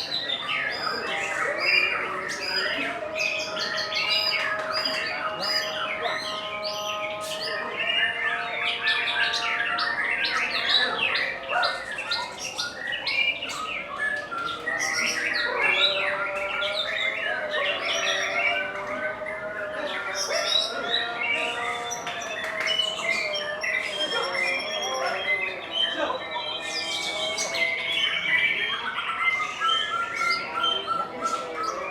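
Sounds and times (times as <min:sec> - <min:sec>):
songbirds singing: 0:00.0 - 0:31.9.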